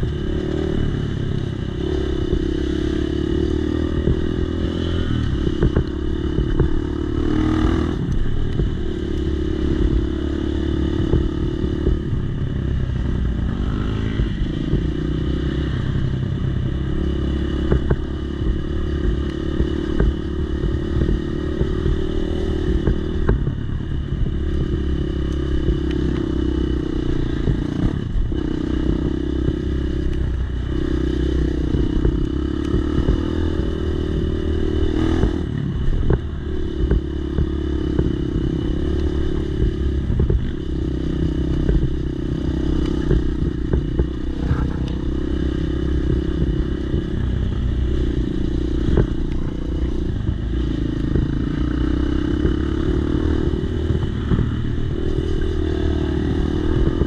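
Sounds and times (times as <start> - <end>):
dirt bike engine revving: 0.0 - 12.3, 13.0 - 16.1, 16.7 - 57.0.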